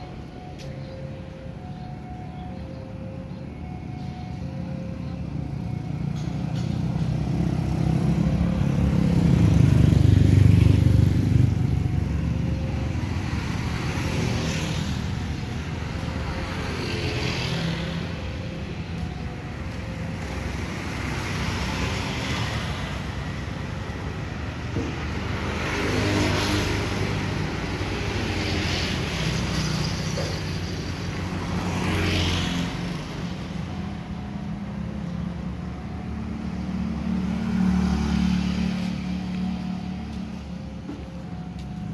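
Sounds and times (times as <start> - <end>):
motorcycles and scooters passing: 0.0 - 41.9.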